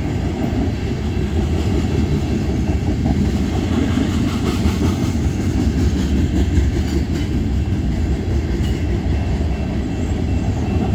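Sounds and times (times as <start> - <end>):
freight train wheels on rail: 0.0 - 10.9.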